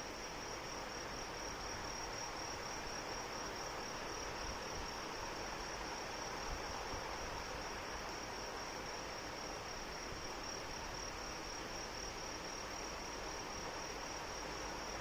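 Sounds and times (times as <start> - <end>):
insect chirping trill: 0.0 - 15.0
steady rain falling: 0.0 - 15.0.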